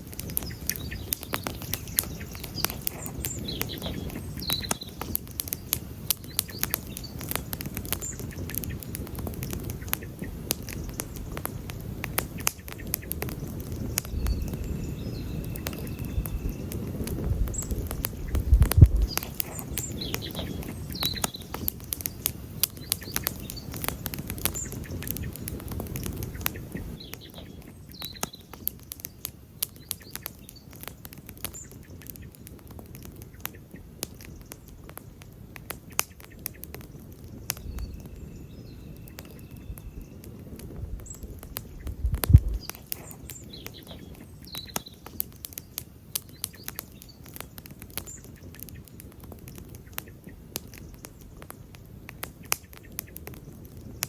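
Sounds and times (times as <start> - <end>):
campfire crackling and popping: 0.0 - 54.0
faint bird chirps: 0.2 - 32.4, 35.8 - 51.5.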